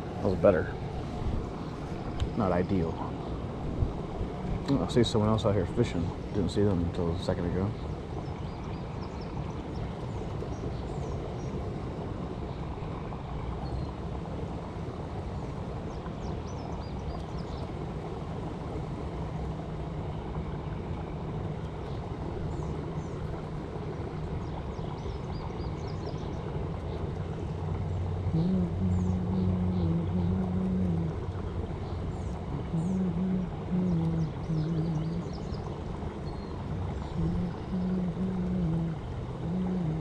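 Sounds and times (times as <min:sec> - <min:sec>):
low engine-like drone: 0:00.0 - 0:40.0
outdoor noise: 0:00.0 - 0:40.0.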